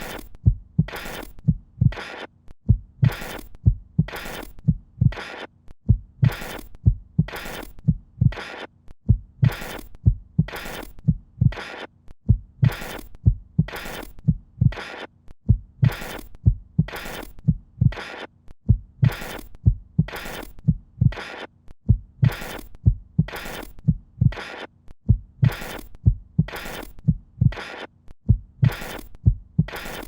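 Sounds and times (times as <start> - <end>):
deep heartbeat-like thumps: 0.0 - 2.0, 2.6 - 5.2, 5.8 - 8.4, 9.0 - 11.6, 12.2 - 14.8, 15.4 - 18.0, 18.6 - 21.2, 21.8 - 24.4, 25.0 - 27.6, 28.2 - 29.8.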